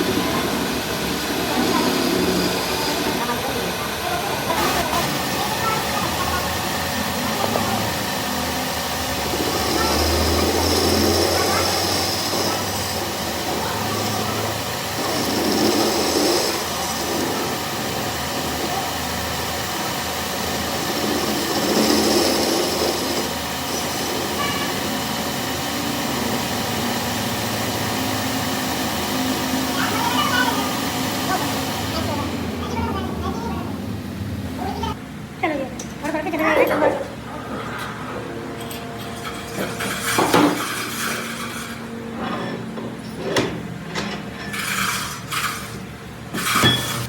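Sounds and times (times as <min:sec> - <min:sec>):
power tool running: 0:00.0 - 0:35.0, 0:38.2 - 0:43.5, 0:44.2 - 0:47.0.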